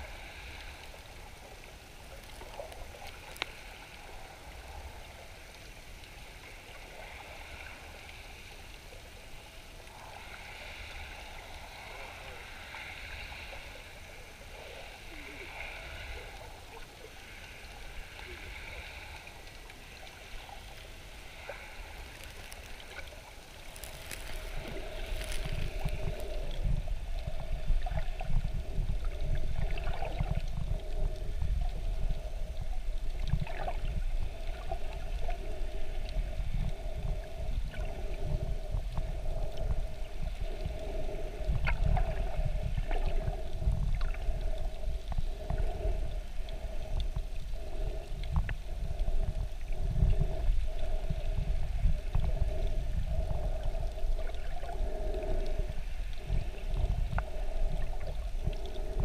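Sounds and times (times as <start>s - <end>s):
faint steady hum: 0.0s - 59.0s
underwater rumble and gurgle: 0.0s - 59.0s.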